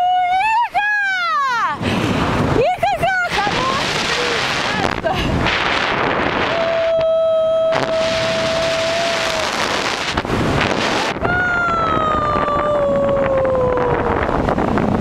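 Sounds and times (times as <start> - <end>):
wind rushing over microphone: 1.4 - 15.0.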